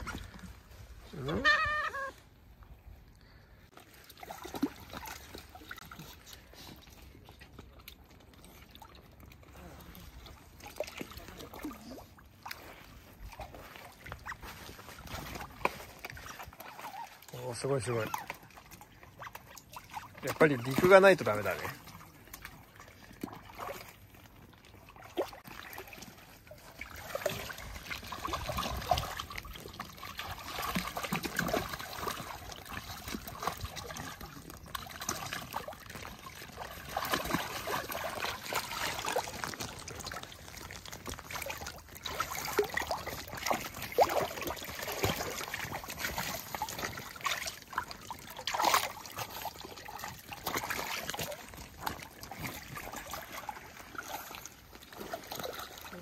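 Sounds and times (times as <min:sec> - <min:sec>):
water splashing and sloshing: 0:00.0 - 0:56.0.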